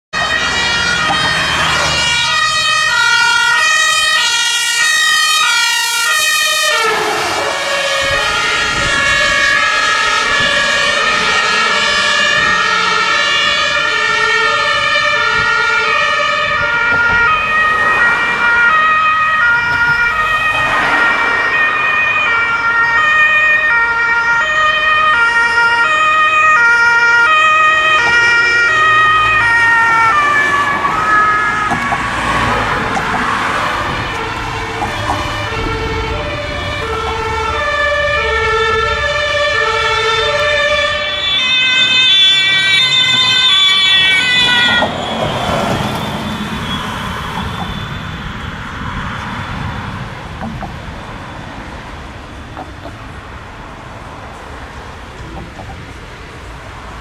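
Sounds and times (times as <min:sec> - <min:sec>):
traffic and engine noise: 0:00.1 - 0:57.0
two-tone emergency sirens: 0:00.1 - 0:57.0.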